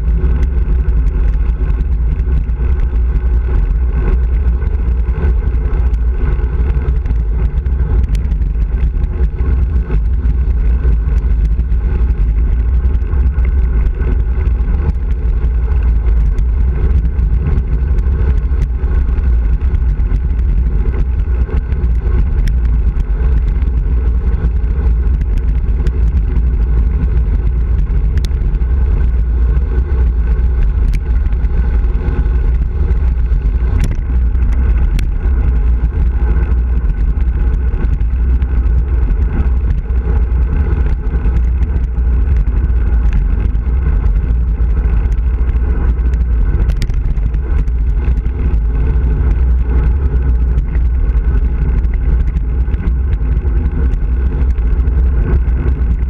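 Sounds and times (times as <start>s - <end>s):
bicycle tyres on road: 0.0s - 56.0s
faint ticks: 0.0s - 56.0s
wind buffeting microphone: 0.0s - 56.0s.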